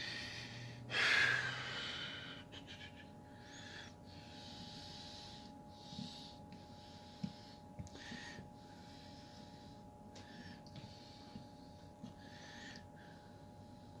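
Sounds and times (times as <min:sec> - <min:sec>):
person breathing: 0:00.0 - 0:14.0.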